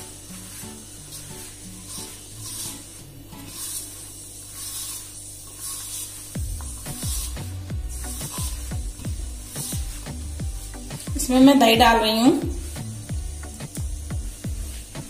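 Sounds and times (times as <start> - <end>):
hand mixing flour in bowl: 0.0 - 15.0
quiet background music: 0.0 - 15.0.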